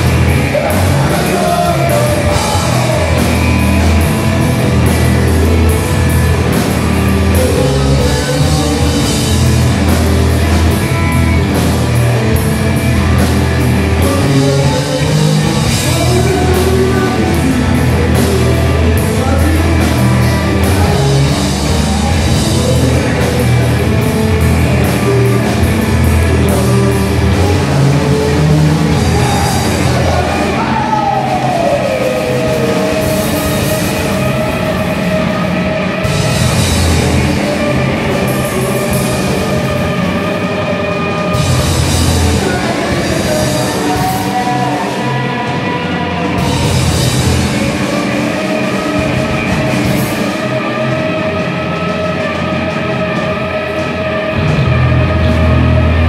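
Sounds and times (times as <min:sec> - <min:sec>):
loud live rock band: 0:00.0 - 0:56.0
person singing: 0:00.0 - 0:56.0.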